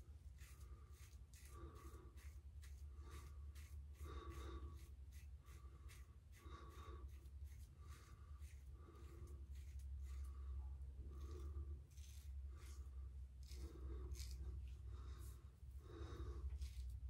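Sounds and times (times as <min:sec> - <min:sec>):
razor scraping stubble: 0:00.0 - 0:10.4, 0:11.1 - 0:17.0
low steady hum: 0:00.0 - 0:17.0.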